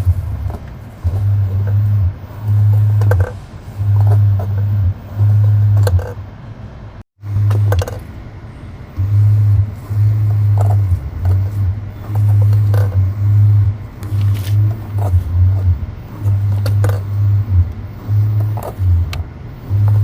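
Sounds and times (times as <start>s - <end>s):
steering clicking: 0.0s - 6.2s, 7.3s - 8.1s, 8.9s - 20.0s
loud low hum: 0.0s - 20.0s.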